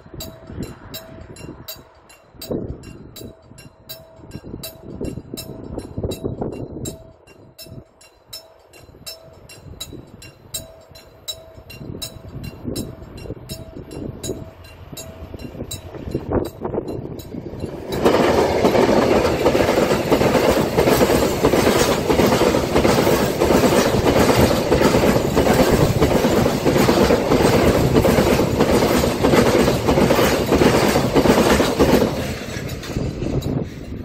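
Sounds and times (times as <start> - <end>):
freight train passing: 0.0 - 34.0
wheels clacking over rail joints: 0.0 - 34.0.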